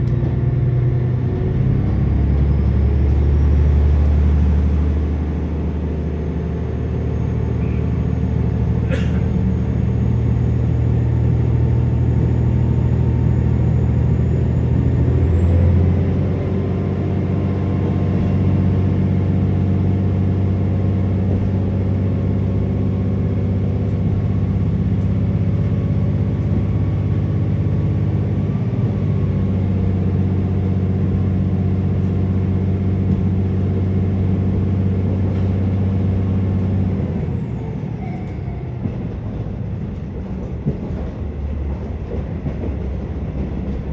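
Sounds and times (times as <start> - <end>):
diesel railcar engine running: 0.0 - 43.9.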